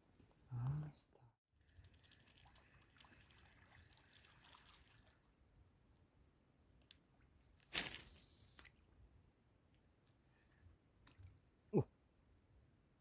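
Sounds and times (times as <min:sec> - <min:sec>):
faint swamp background: 0:00.0 - 0:13.0.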